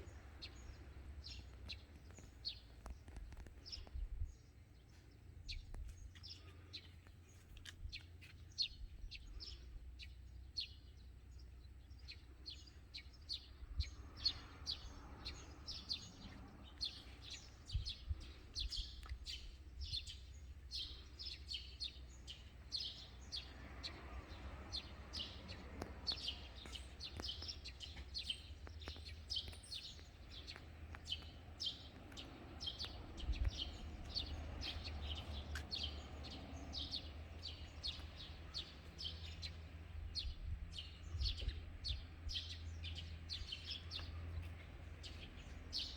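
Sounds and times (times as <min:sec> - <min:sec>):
passing road traffic: 0:00.0 - 0:03.8, 0:10.3 - 0:45.9
small birds chirping: 0:00.0 - 0:45.9.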